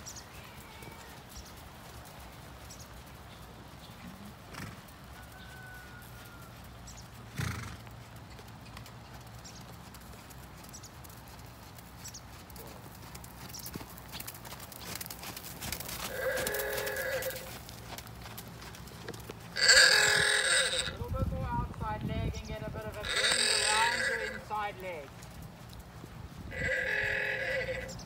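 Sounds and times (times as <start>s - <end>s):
horse hooves clopping: 0.0s - 28.0s.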